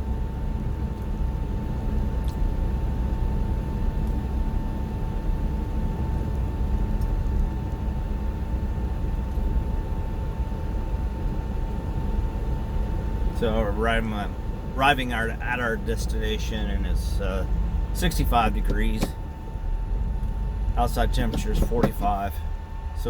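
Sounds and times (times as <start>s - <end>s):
car road and engine rumble: 0.0s - 23.0s
thin steady whine: 0.0s - 23.0s.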